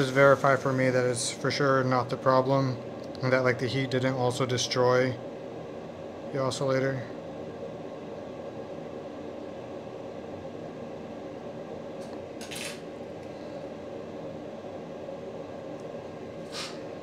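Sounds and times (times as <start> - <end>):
equipment hum: 0.0 - 17.0.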